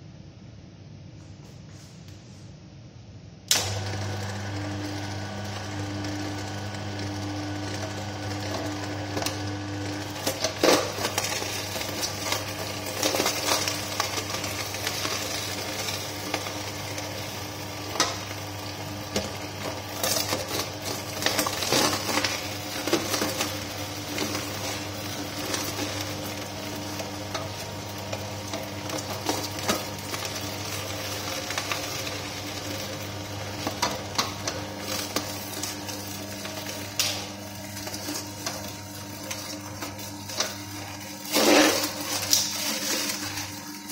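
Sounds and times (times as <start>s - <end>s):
juicer motor hum: 3.5s - 43.9s.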